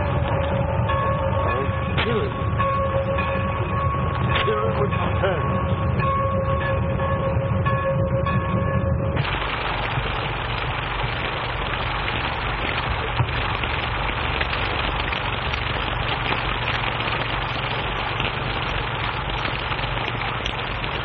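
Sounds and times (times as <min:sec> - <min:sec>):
low rumble: 0:00.0 - 0:21.0
steady rushing noise: 0:00.0 - 0:21.0.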